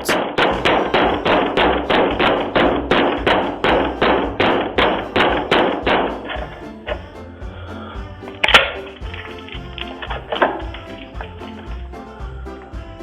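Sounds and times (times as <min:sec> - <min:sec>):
rapid hard banging: 0:00.0 - 0:13.0.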